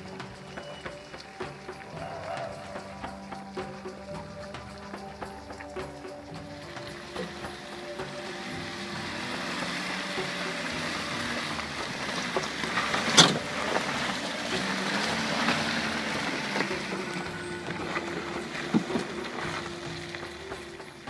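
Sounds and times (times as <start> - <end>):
tyres rushing through mud: 0.0 - 21.0
motorhome engine running: 3.4 - 21.0.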